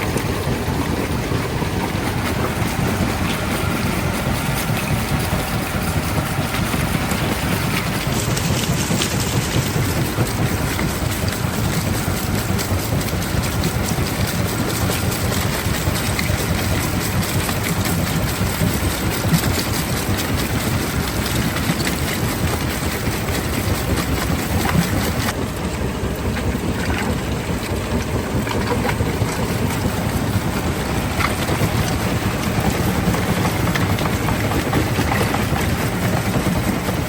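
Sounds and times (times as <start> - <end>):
heavy machinery rumble: 0.0 - 37.0.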